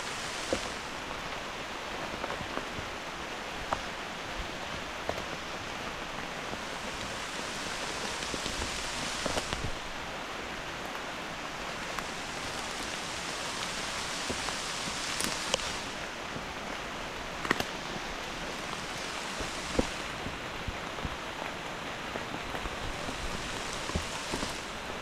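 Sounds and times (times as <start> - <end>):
hard rain falling: 0.0 - 25.0.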